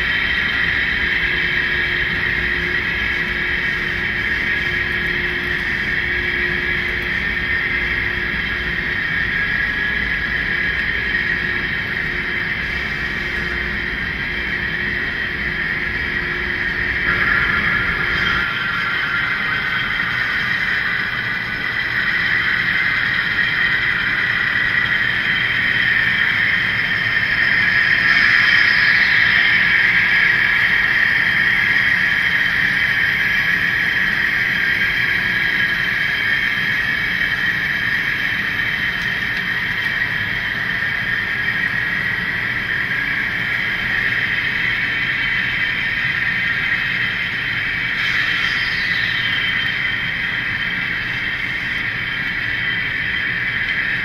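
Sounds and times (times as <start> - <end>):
model train motor hum and whine: 0.0 - 54.0.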